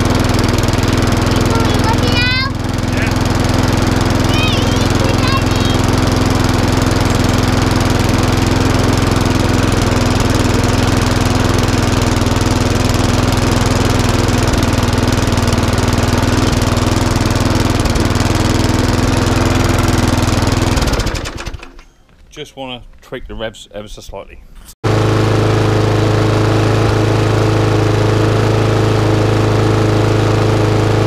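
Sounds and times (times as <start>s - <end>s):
lawnmower engine running: 0.0s - 22.0s, 24.8s - 31.0s.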